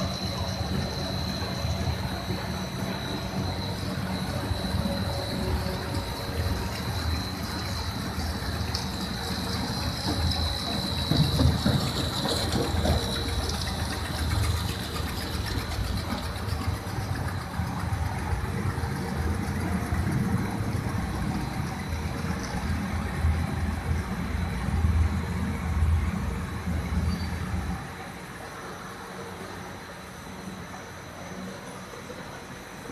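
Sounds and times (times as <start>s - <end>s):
factory machinery humming: 0.0s - 32.9s.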